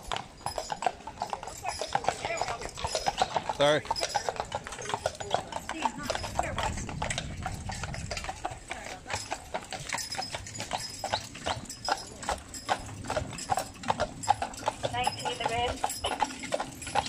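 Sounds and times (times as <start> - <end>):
horse hooves clip-clopping on asphalt: 0.0 - 17.0.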